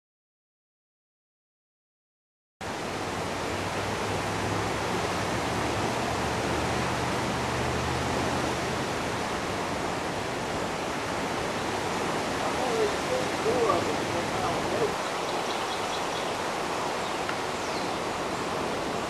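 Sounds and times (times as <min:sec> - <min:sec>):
floodwater rushing: 0:02.6 - 0:19.0.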